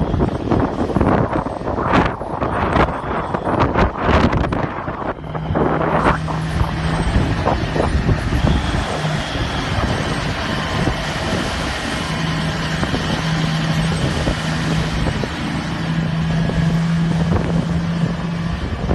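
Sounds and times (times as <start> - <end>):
diesel engine humming: 0.0 - 18.9
loud rushing noise: 0.0 - 18.9.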